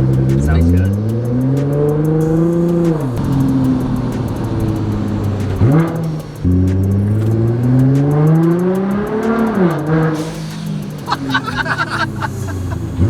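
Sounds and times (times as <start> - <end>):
engine rev blip: 0.0 - 13.0
sports car engine accelerating: 0.0 - 13.0.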